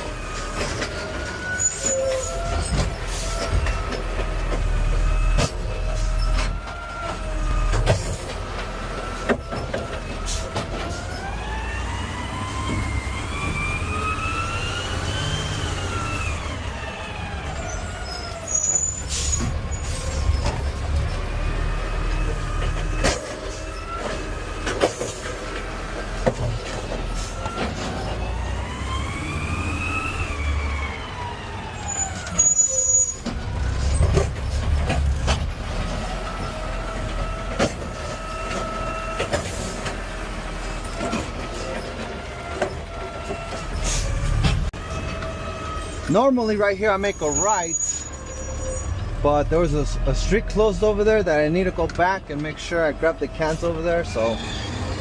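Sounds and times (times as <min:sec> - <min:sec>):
garbage truck running: 0:00.0 - 0:55.0
truck whine rising and falling: 0:00.0 - 0:55.0.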